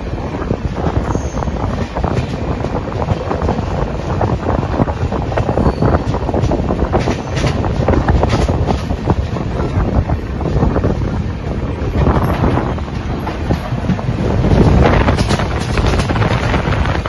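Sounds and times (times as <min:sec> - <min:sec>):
train rumbling and clattering on rails: 0:00.0 - 0:17.0
wind buffeting microphone: 0:00.0 - 0:17.0.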